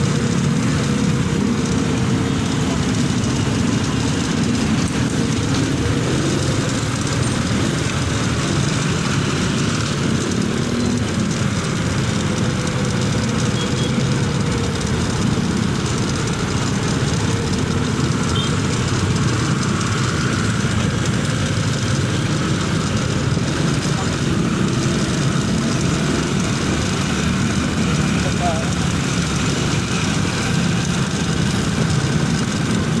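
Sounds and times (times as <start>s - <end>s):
motorcycle engine running: 0.0s - 33.0s
road noise: 0.0s - 33.0s.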